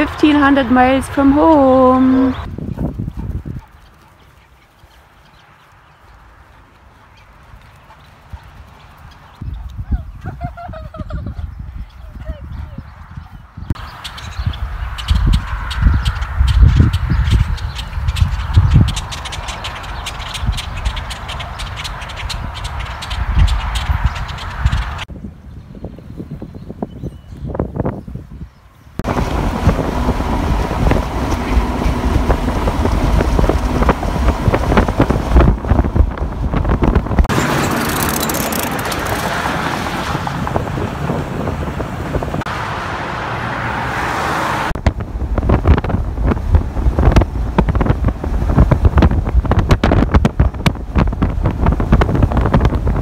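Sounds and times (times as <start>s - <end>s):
wind buffeting microphone: 0.0s - 4.9s, 5.9s - 42.6s, 44.6s - 53.0s
vehicle road noise: 0.0s - 53.0s.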